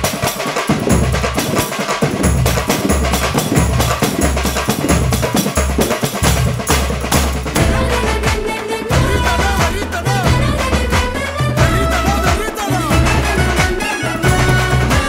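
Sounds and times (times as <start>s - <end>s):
dance music with heavy drums: 0.0s - 15.0s.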